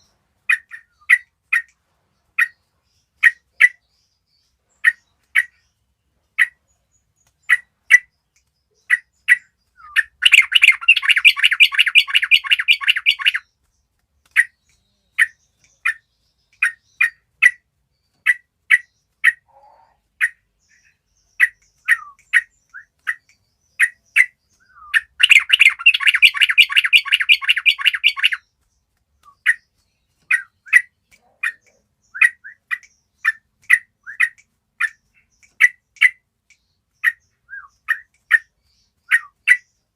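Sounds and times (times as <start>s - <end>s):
birds calling sharp notes: 0.0s - 39.9s
birds rapid chattering: 0.0s - 39.9s.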